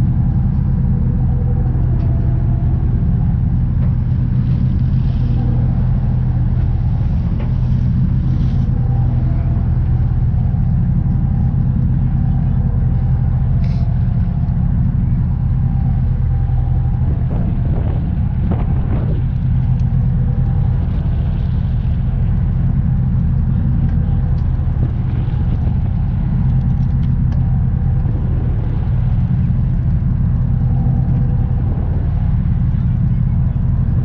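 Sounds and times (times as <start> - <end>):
engine low rumble: 0.0 - 34.0.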